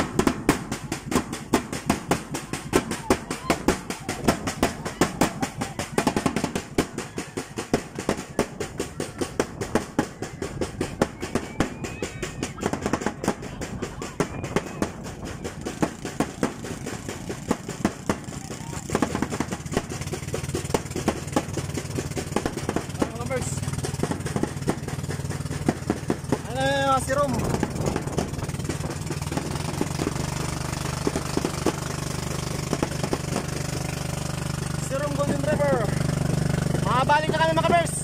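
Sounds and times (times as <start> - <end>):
boat engine drone: 0.0 - 38.0
marching snare and bass drums: 0.0 - 38.0.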